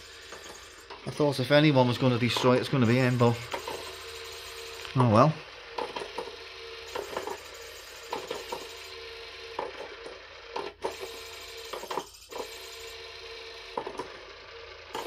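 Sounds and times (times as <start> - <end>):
toy motor humming: 0.0 - 15.0.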